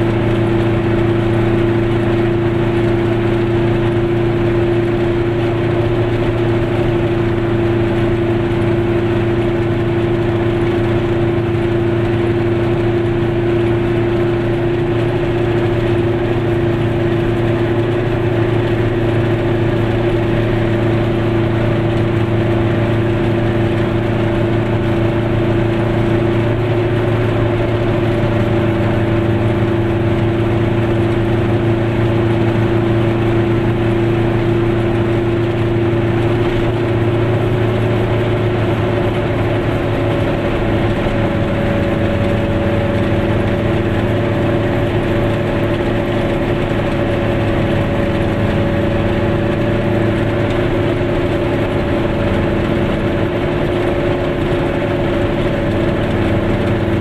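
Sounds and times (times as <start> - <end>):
small car engine buzzing: 0.0 - 57.0.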